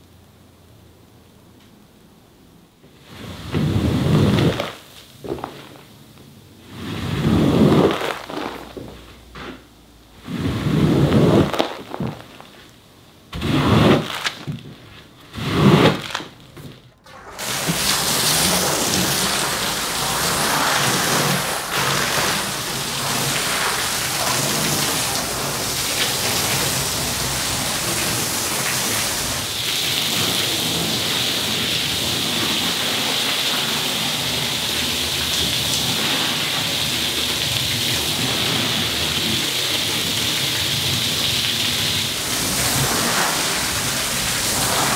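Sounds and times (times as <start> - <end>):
squeegee swishing across wet rug: 2.9 - 5.9, 6.6 - 9.6, 10.2 - 44.9
water spraying hiss: 2.9 - 9.0, 10.1 - 12.7, 17.1 - 44.9.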